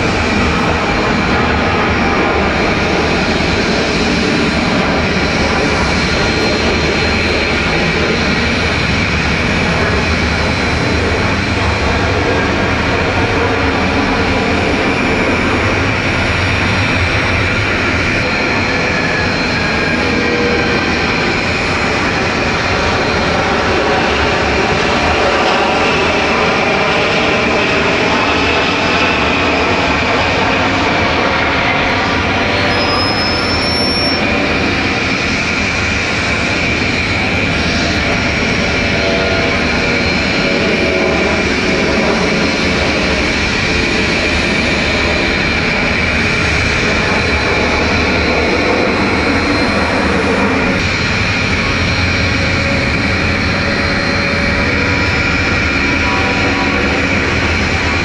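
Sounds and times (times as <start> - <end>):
jet engines at takeoff power: 0.0 - 58.0.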